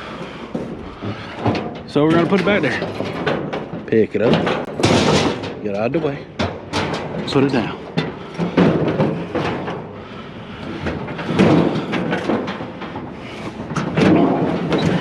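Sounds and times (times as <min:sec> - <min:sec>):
metal clanking and rattling: 0:00.0 - 0:15.0.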